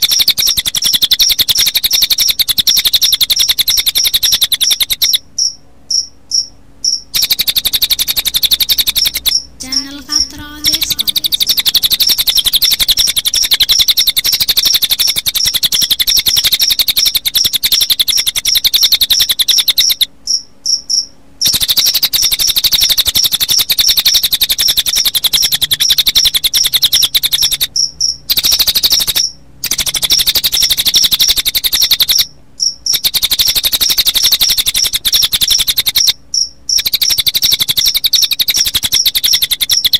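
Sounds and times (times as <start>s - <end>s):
bird song: 0.0s - 39.9s
crickets chirping: 0.0s - 39.9s.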